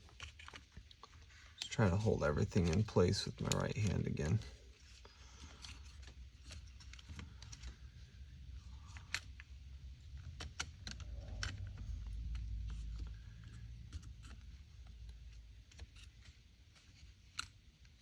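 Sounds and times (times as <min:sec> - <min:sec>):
plastic and metal parts clicking: 0:00.0 - 0:18.0.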